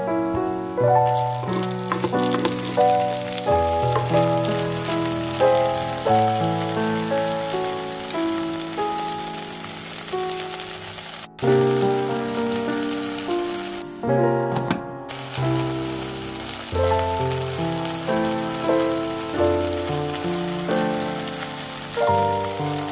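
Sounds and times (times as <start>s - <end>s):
gentle piano music: 0.0s - 22.9s
vegetables sizzling in oil: 1.0s - 14.0s, 15.1s - 22.9s.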